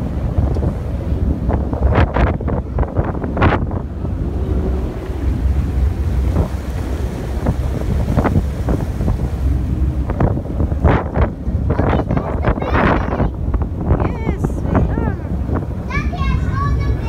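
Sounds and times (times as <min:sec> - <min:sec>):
boat engine low rumble: 0:00.0 - 0:17.0
wake rushing: 0:00.0 - 0:17.0
wind buffeting microphone: 0:00.0 - 0:17.0.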